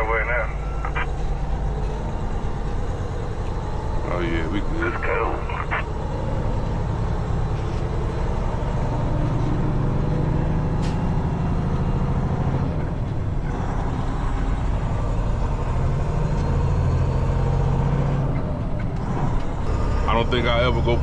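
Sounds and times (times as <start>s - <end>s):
truck diesel engine drone: 0.0s - 21.0s.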